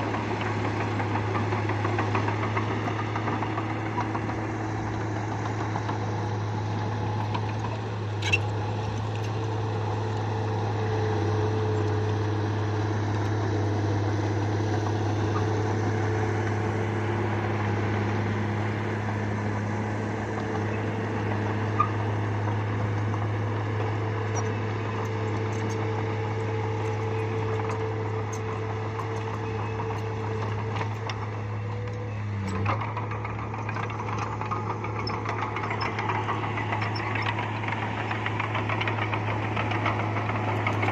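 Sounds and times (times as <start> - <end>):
bulldozer diesel engine humming: 0.0 - 40.9.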